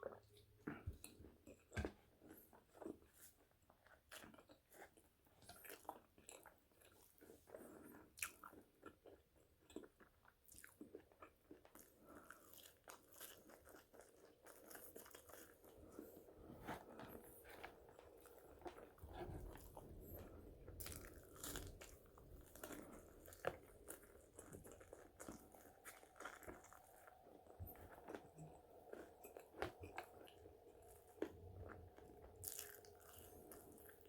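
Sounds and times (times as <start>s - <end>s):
chewing crunchy fries: 0.0s - 34.0s.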